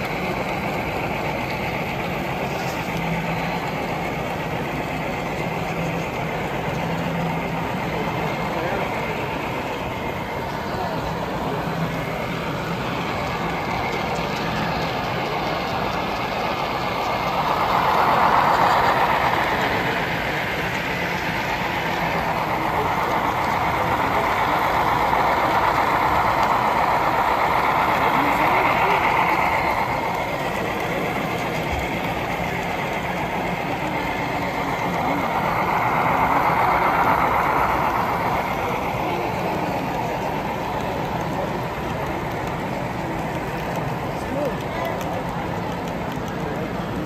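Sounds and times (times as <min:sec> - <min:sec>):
model train wheels and motor rumbling: 0:00.0 - 0:47.0.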